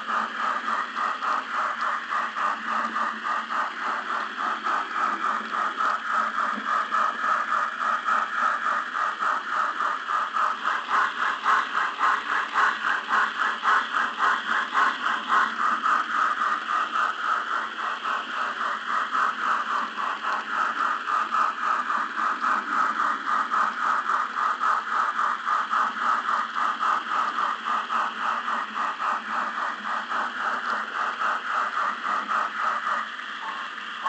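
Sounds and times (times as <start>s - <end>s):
train rattling: 0.0s - 34.0s.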